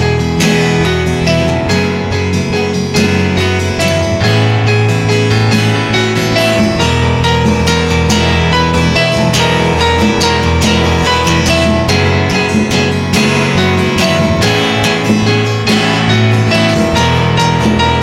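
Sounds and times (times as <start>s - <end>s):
strummed guitar: 0.0s - 18.0s
sustained band notes: 0.0s - 18.0s.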